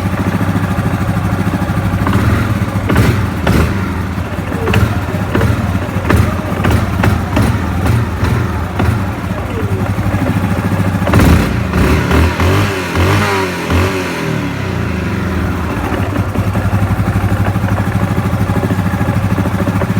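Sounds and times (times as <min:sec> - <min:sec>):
atv engine revving and idling: 0:00.0 - 0:19.9
engine knocking: 0:00.0 - 0:19.9.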